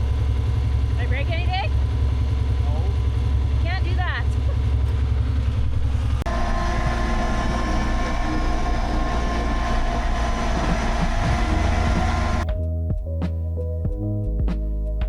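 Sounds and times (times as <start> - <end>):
tractor engine running: 0.0 - 13.1.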